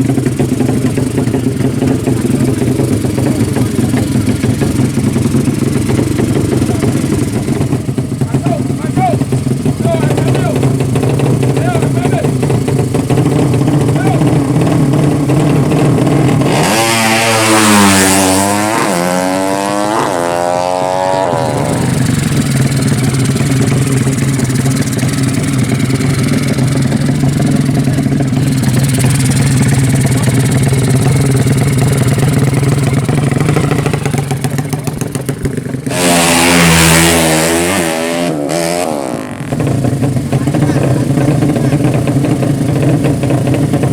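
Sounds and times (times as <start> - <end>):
motorcycles accelerating hard: 0.0 - 43.9
steady engine hum: 0.0 - 43.9.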